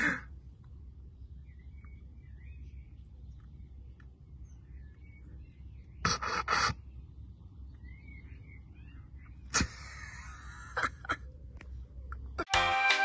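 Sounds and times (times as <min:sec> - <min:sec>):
low outdoor rumble: 0:00.0 - 0:12.5
small birds chirping: 0:00.0 - 0:12.5.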